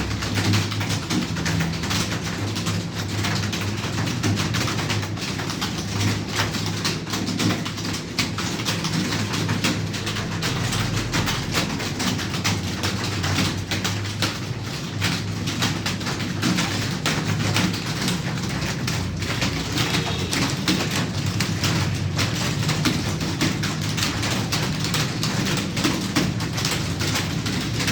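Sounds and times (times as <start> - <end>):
keyboard typing: 0.0 - 27.9.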